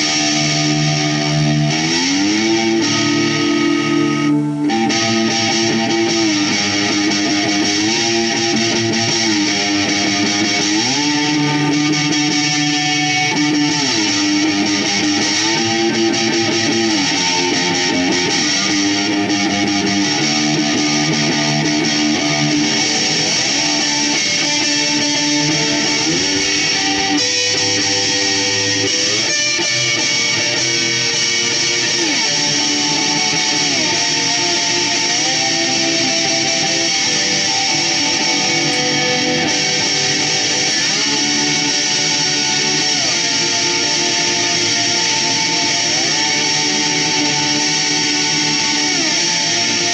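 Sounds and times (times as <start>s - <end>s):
slide guitar chords: 0.0s - 49.9s.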